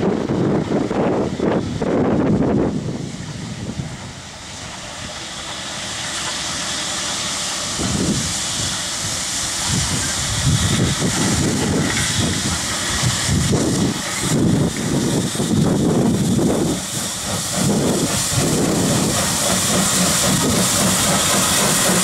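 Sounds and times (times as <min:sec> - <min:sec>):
low train rumbles: 0:00.0 - 0:22.0
steam locomotive hissing: 0:00.0 - 0:22.0.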